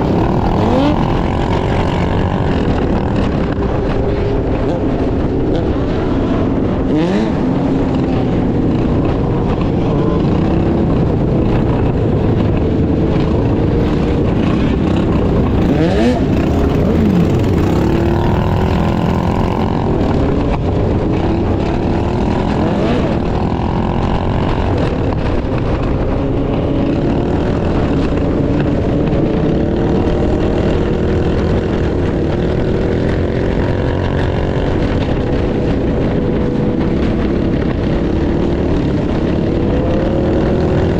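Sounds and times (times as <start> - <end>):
low rush of wind: 0.0 - 40.9
small motorbike engines revving: 0.0 - 40.9.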